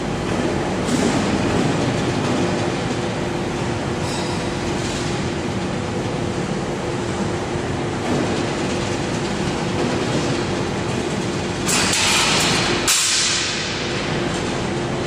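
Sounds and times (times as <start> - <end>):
machine clatter: 0.1 - 5.7, 7.8 - 15.0.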